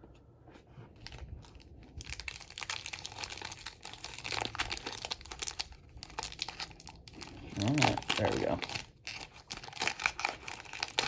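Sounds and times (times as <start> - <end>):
wrapper crinkling and tearing: 1.0 - 11.0.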